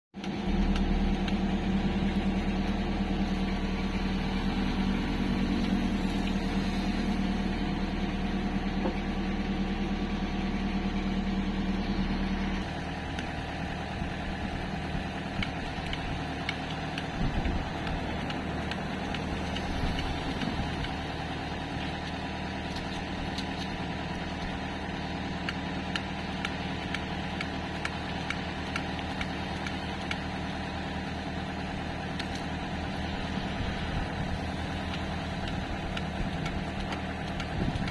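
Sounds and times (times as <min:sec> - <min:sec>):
excavator diesel engine running: 0:00.2 - 0:37.9.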